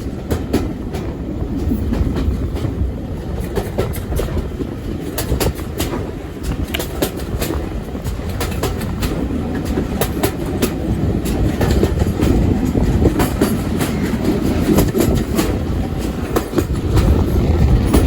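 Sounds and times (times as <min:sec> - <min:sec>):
train carriage rumble: 0:00.0 - 0:18.0
wheels clicking over rail joints: 0:00.0 - 0:18.0.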